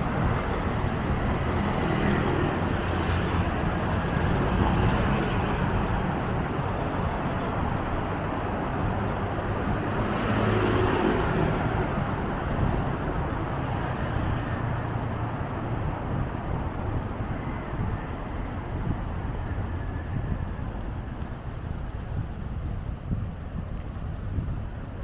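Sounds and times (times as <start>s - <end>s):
road traffic noise: 0.0s - 25.0s.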